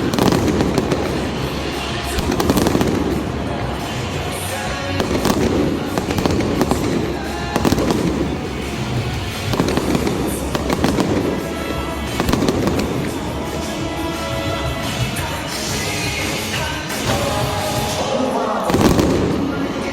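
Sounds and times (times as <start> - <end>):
fireworks bangs and crackles: 0.0 - 19.9
music playing: 0.0 - 19.9.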